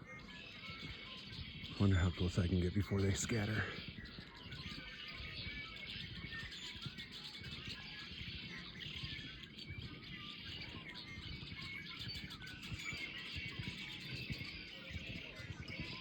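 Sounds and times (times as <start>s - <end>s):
flock of blackbirds calling: 0.0s - 16.0s.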